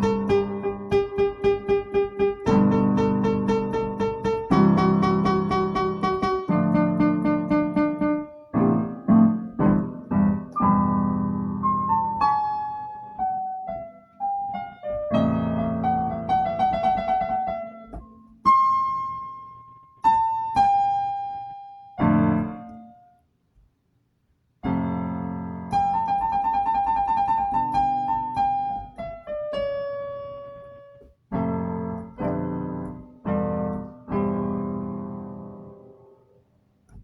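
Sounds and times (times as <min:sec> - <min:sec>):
piano playing: 0:00.0 - 0:23.2, 0:24.6 - 0:36.4.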